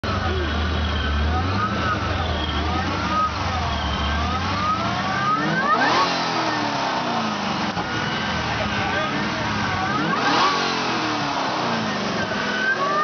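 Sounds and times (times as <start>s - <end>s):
supercharged car engine revving: 0.0s - 13.0s.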